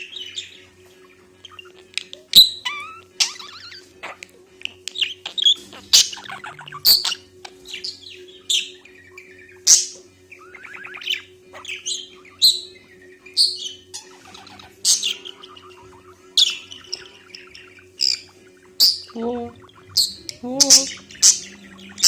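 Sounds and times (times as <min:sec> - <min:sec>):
parrot chirping: 0:00.0 - 0:22.0.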